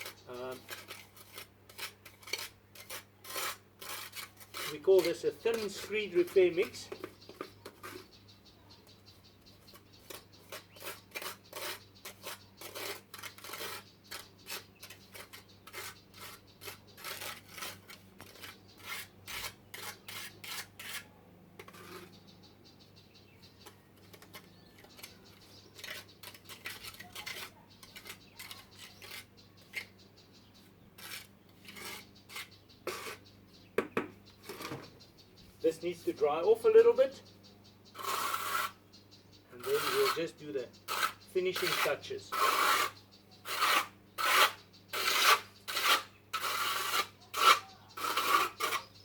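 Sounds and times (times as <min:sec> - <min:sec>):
trowel scraping and patting mortar: 0:00.0 - 0:08.2, 0:09.5 - 0:22.2, 0:23.6 - 0:30.0, 0:30.6 - 0:33.3, 0:38.0 - 0:38.8, 0:39.6 - 0:49.0.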